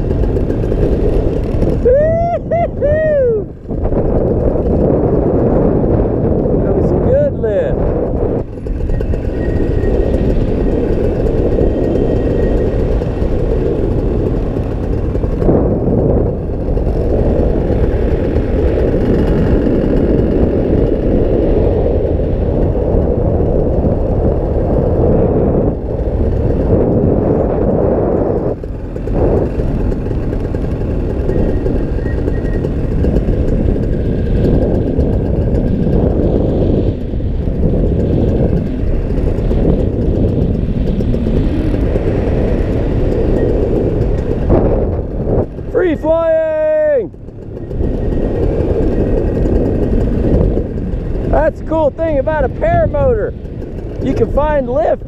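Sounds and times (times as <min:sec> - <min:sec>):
paramotor engine and propeller: 0:00.0 - 0:55.0
wind rushing: 0:00.0 - 0:55.0.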